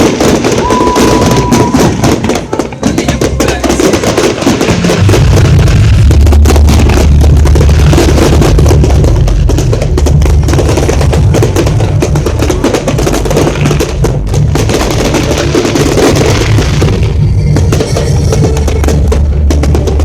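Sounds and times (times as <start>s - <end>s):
fireworks crackling and banging: 0.0s - 20.0s
loud concert music: 0.0s - 20.0s.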